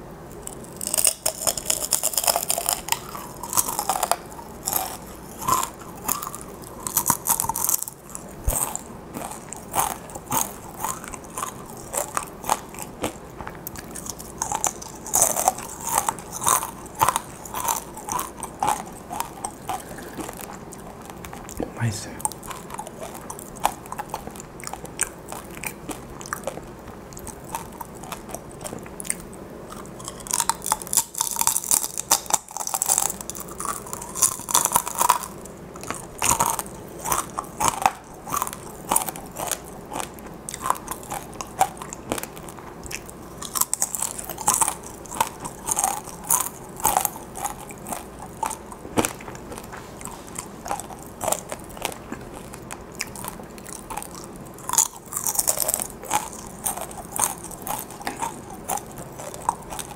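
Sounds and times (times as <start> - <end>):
crunching fried chili peppers: 0.3 - 59.9.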